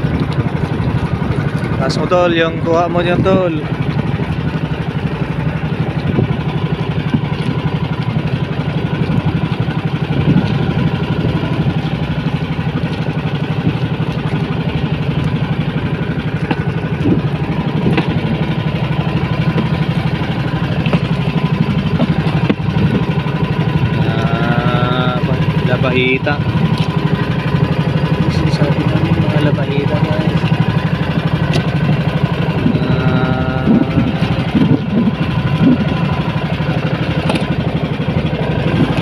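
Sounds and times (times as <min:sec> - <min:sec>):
boat engine chugging: 0:00.0 - 0:39.0.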